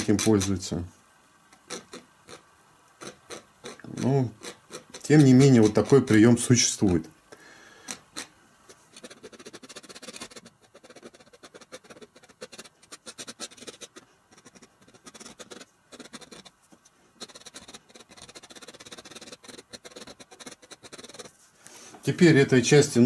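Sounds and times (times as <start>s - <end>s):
palette knife scratching paint: 0.0s - 0.5s, 1.6s - 7.0s, 7.9s - 16.5s, 17.2s - 21.4s.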